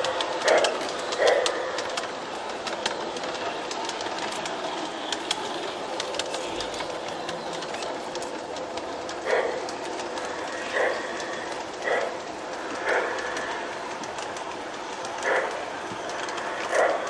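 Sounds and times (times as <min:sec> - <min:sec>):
model train running hiss: 0:00.0 - 0:17.0
wheels clicking over rail joints: 0:00.0 - 0:17.0.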